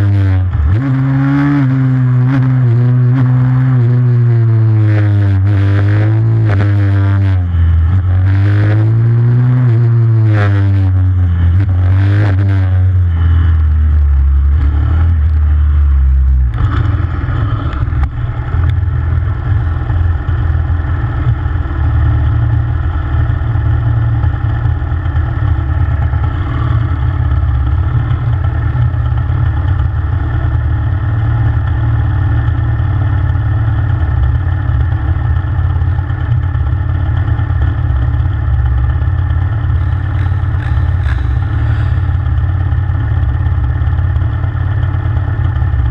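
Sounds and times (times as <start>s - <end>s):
motorbike engine revving and idling: 0.0s - 45.9s.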